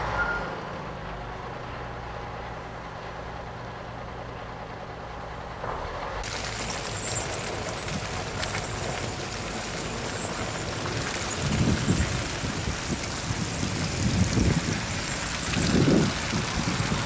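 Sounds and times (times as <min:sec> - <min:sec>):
road noise: 0:00.0 - 0:17.0
vehicle engine humming: 0:00.0 - 0:17.0.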